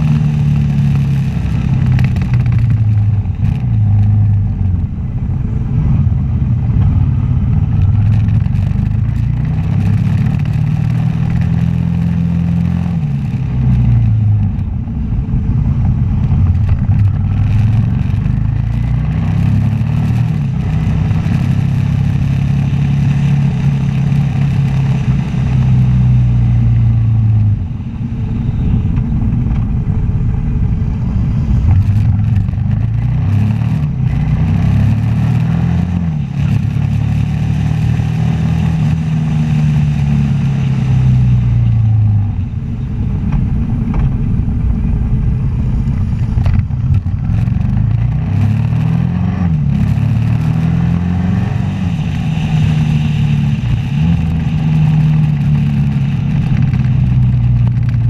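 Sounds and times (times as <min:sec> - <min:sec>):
motorcycle engine accelerating: 0:00.0 - 0:58.0
wind and road noise: 0:00.0 - 0:58.0.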